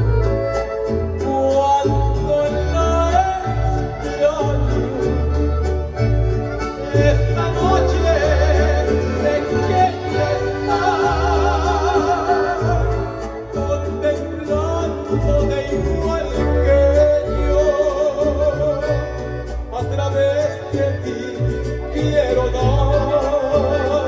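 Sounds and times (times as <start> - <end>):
mariachi music: 0.0 - 24.0.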